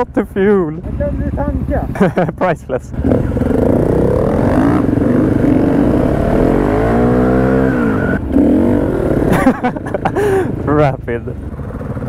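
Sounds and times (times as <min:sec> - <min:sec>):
motorcycle engine revving: 0:00.7 - 0:12.0.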